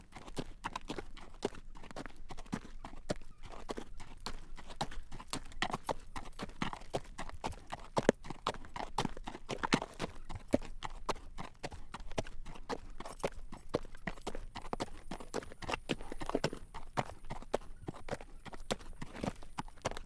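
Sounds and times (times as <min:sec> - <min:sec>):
horse hooves clip-clopping on pavement: 0:00.1 - 0:20.0.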